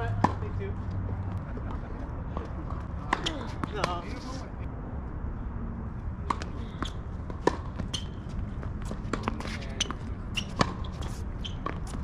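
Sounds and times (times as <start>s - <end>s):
tennis balls struck and bouncing: 0.0s - 4.2s, 6.2s - 12.0s.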